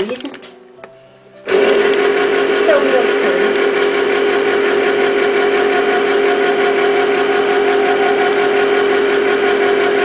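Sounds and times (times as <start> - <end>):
electric can opener humming: 1.5 - 10.0.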